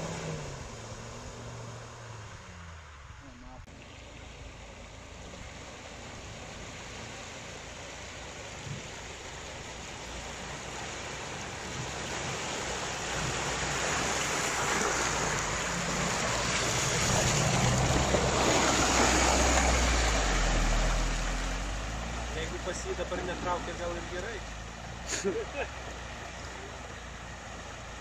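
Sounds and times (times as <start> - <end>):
car churning through muddy water: 0.0 - 28.0
car engine running: 0.0 - 28.0.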